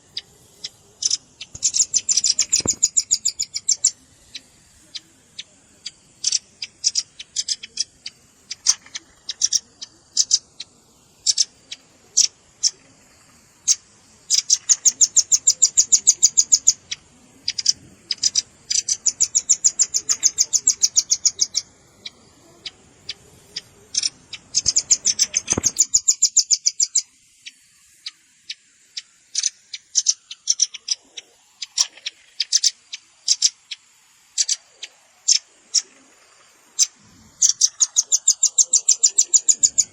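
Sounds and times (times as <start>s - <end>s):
bird rattling trills: 0.0s - 27.1s, 28.0s - 39.9s
bird chips: 0.0s - 39.9s.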